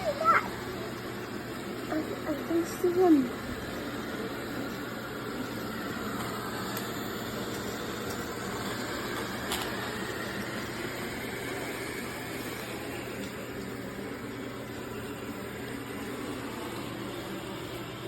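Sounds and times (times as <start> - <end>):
robot vacuum motor hum: 0.0 - 18.0.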